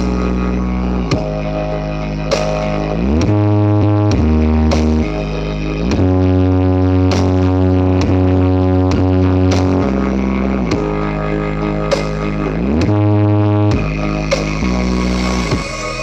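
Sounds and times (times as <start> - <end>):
bass-heavy music: 0.0 - 16.0.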